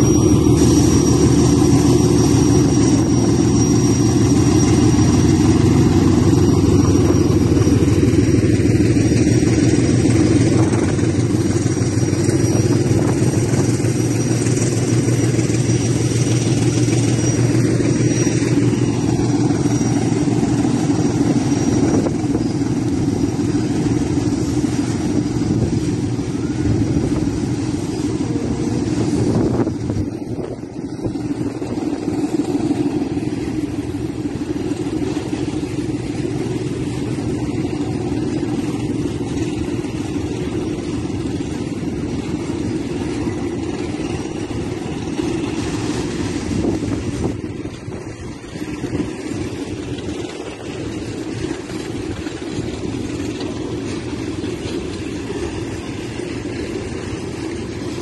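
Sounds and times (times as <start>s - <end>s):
locomotive engine drone: 0.0s - 58.0s
wagons rolling past: 0.0s - 58.0s.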